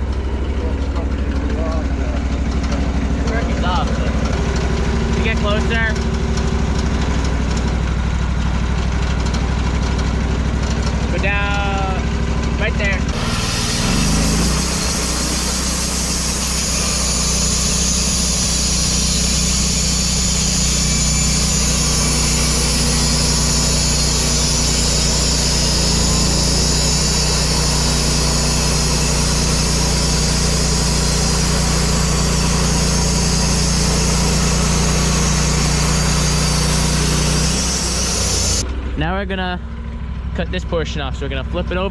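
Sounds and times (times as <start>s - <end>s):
gasoline engine hum: 0.0s - 41.9s
saw cutting through log: 0.1s - 38.7s.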